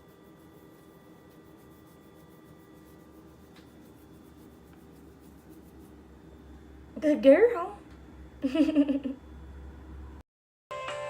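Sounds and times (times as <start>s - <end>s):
faint steady hum: 0.0s - 10.2s.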